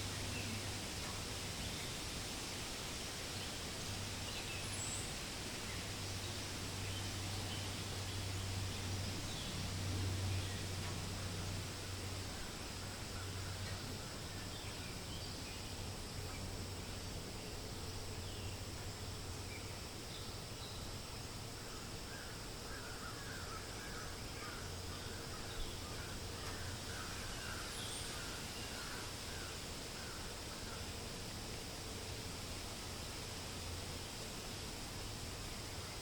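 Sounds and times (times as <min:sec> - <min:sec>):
wind hiss: 0:00.0 - 0:36.0.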